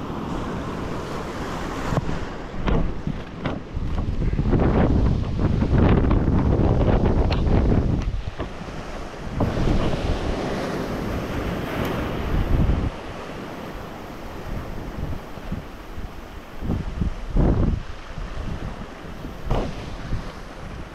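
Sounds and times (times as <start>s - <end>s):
sea waves breaking: 0.0s - 20.9s
wind buffeting microphone: 0.0s - 20.9s.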